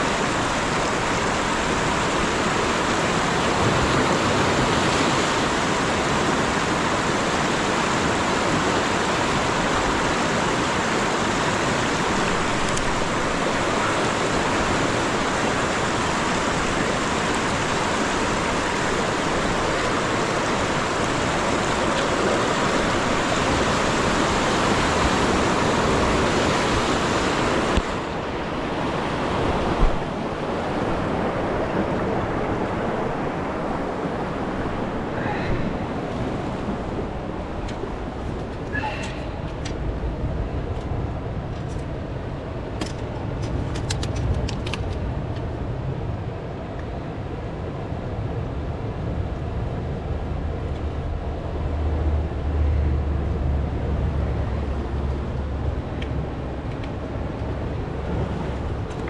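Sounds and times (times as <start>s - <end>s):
sea waves washing in: 0.0s - 59.0s
wind on microphone: 0.0s - 59.0s.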